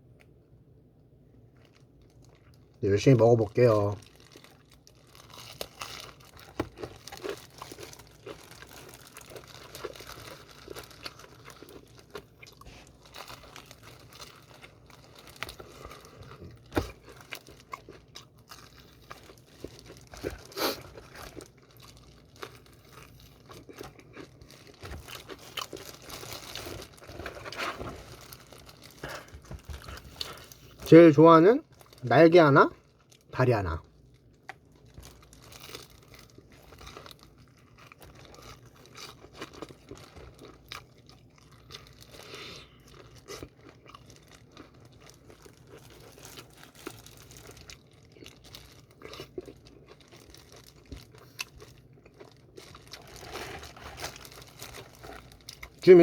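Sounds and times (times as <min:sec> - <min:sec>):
chewing and crunching fried chicken: 0:01.0 - 0:56.0.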